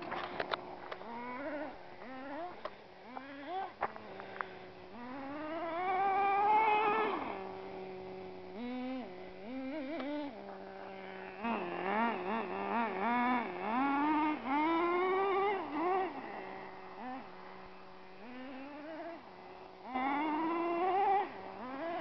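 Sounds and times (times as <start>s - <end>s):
rc truck engine idling and revving: 0.0s - 22.0s.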